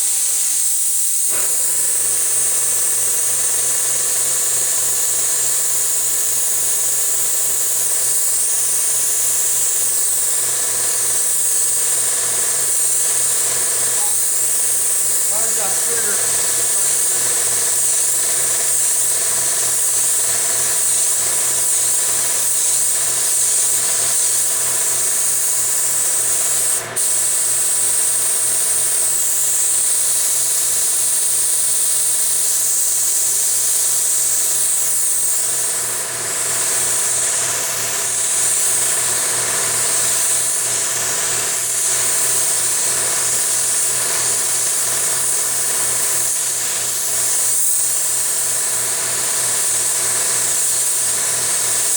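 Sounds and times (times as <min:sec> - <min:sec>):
spray gun hissing: 0:00.0 - 0:51.9.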